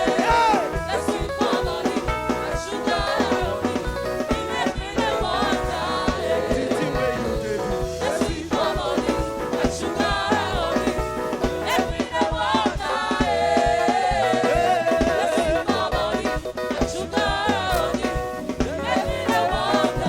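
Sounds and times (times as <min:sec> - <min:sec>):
gospel voices singing over band: 0:00.0 - 0:20.0
steady drum beat: 0:00.0 - 0:20.0.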